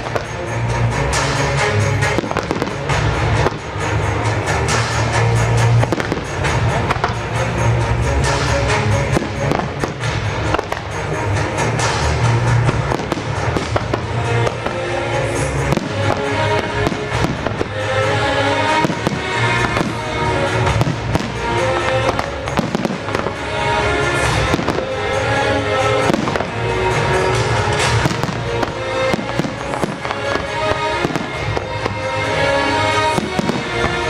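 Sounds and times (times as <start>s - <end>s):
fireworks bangs and crackles: 0.0s - 34.0s
loud music over sound system: 0.0s - 34.0s.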